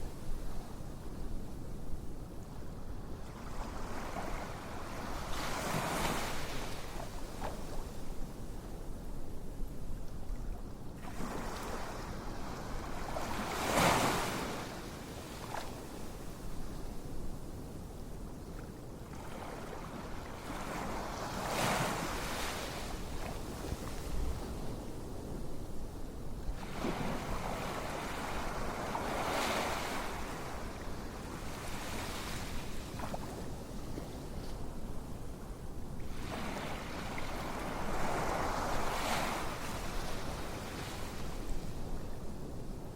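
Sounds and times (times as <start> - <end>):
ocean waves surf hiss: 3.2 - 8.2, 11.0 - 17.0, 19.2 - 42.9.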